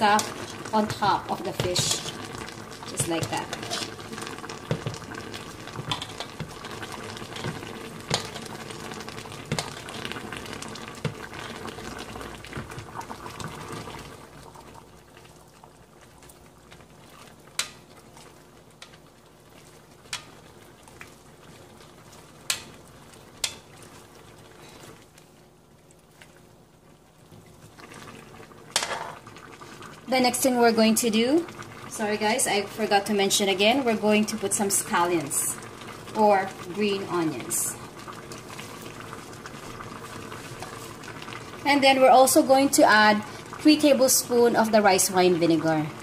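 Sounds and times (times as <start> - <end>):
fish simmering and bubbling in pan: 0.0 - 46.0.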